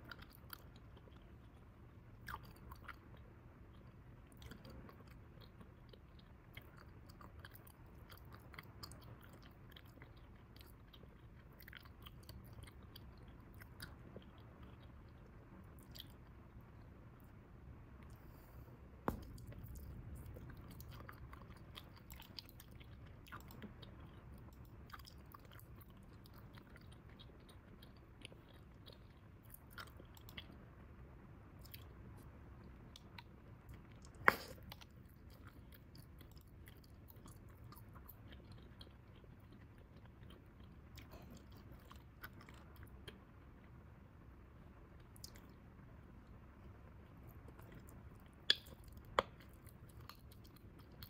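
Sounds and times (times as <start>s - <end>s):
gum chewing: 0.0s - 17.4s, 18.0s - 30.7s, 31.6s - 43.8s, 45.0s - 45.6s, 46.2s - 51.0s.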